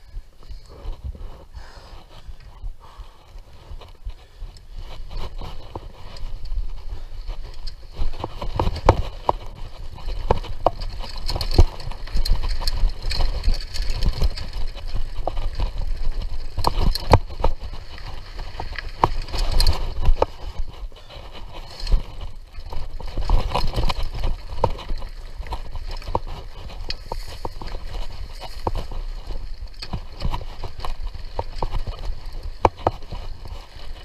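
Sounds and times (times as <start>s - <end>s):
bike knocking and rattling over bumps: 0.0s - 34.0s
bike tyres rumbling on dirt trail: 0.0s - 34.0s.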